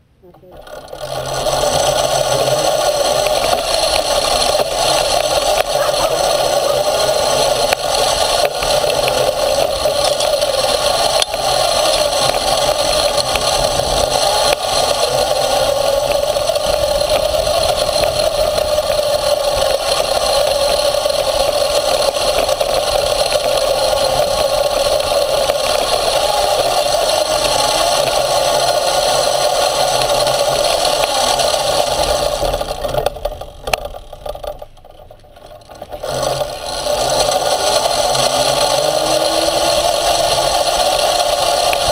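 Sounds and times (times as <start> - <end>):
chassis and wheels rattling: 0.0 - 41.9
motor drone: 0.0 - 41.9.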